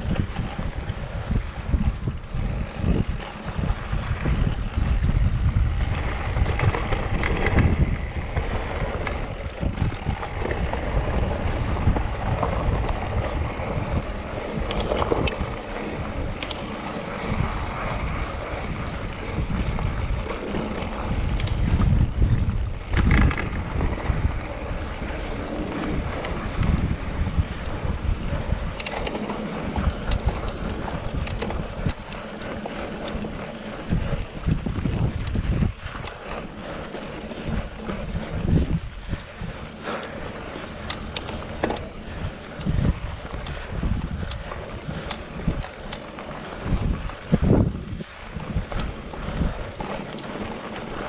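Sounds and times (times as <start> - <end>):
bike clicks and rattles: 0.0 - 51.0
bike tyres rolling on rocky trail: 0.0 - 51.0
wind buffeting microphone: 0.0 - 51.0.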